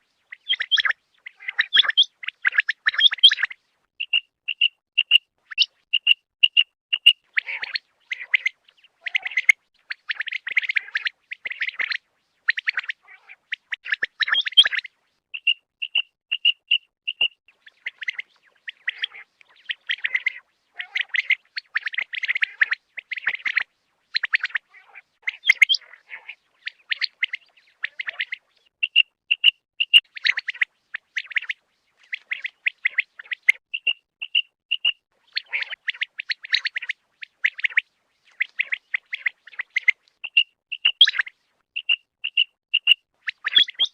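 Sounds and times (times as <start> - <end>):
quail piping notes: 0.0 - 43.9
quail buzzy chattering: 0.3 - 43.9.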